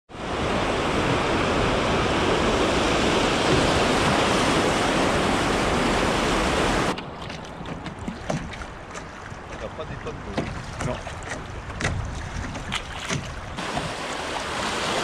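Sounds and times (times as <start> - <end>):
river rapid rushing water: 0.1 - 7.0, 8.5 - 15.0.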